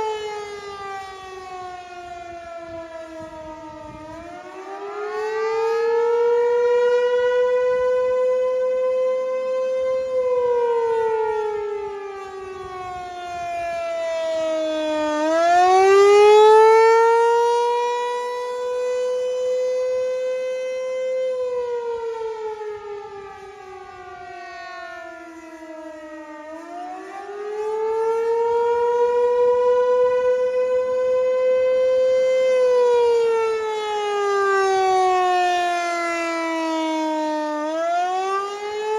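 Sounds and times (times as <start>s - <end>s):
warning siren wailing: 0.0s - 38.9s.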